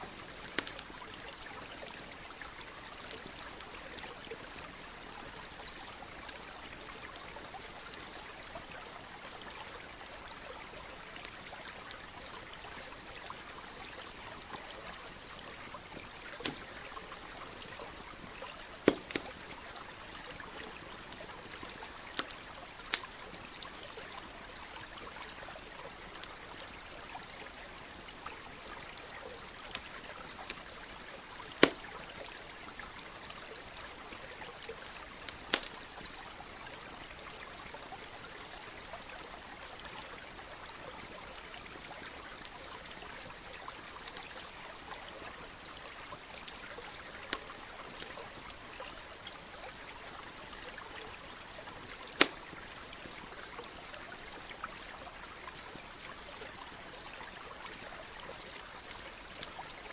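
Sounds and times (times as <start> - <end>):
campfire crackling and popping: 0.0 - 59.9
small stream flowing: 0.0 - 59.9.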